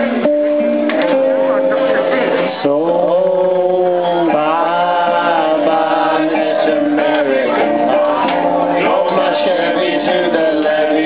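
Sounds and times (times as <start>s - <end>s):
live band playing: 0.0s - 9.4s
person singing: 1.7s - 11.0s.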